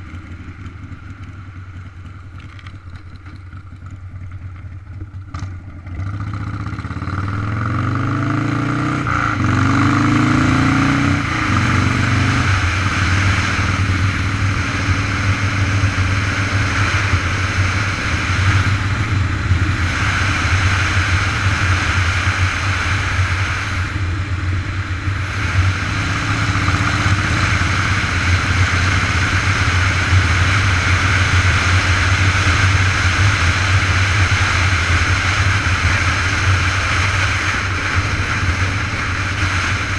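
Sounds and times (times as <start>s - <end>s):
vehicle engine accelerating: 0.0s - 39.9s
wind rush on microphone: 7.2s - 39.9s.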